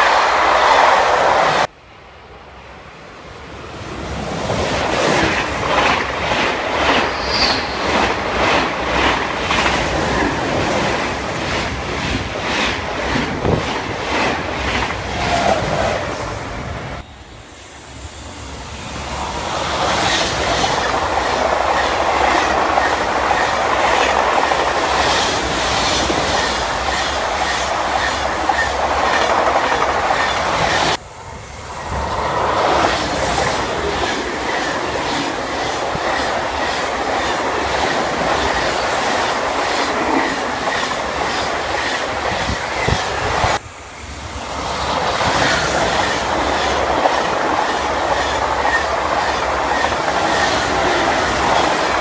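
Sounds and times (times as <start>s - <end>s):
high-speed train passing: 0.0s - 52.0s.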